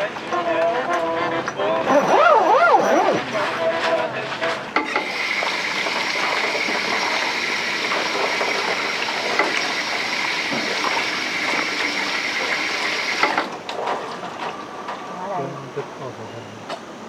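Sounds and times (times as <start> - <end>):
water rushing: 1.6 - 17.0.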